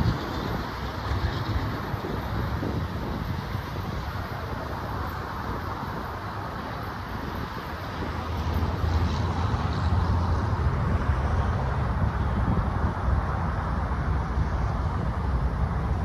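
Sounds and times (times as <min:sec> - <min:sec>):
passenger train rumbling past: 0:00.0 - 0:16.0.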